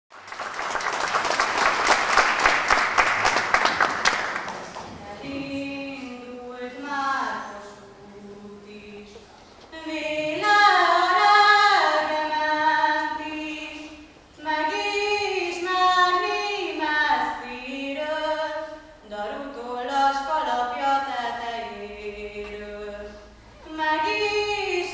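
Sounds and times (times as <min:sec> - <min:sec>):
girl singing unaccompanied: 0:04.9 - 0:24.9.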